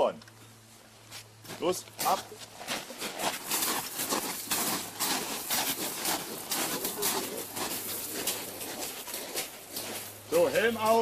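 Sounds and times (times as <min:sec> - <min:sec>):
boots crunching on gravel: 0:00.8 - 0:11.0.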